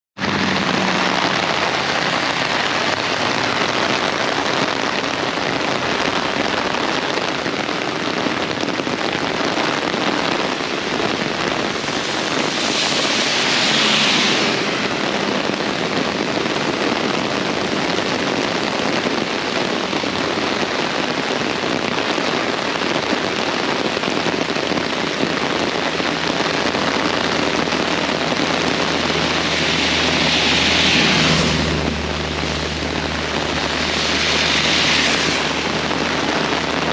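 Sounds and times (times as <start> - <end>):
very heavy rain pouring: 0.2 - 36.9.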